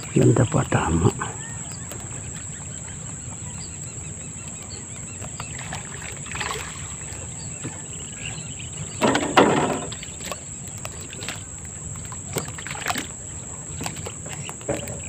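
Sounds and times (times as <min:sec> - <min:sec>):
high insect hum: 0:00.0 - 0:15.0
water splashing: 0:00.0 - 0:15.0.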